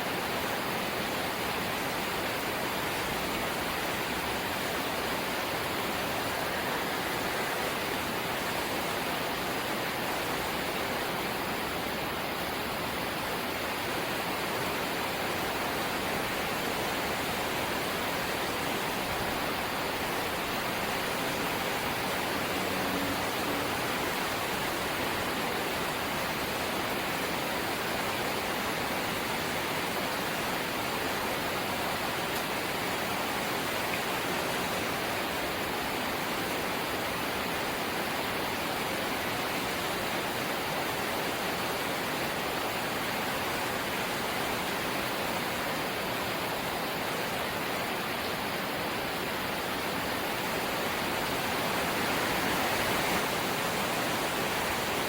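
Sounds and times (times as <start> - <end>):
rain on a metal roof: 0.0 - 55.0.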